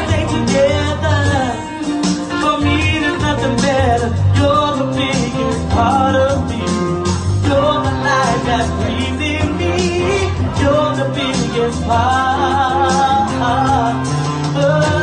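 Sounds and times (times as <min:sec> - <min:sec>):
backing track with bass: 0:00.0 - 0:15.0.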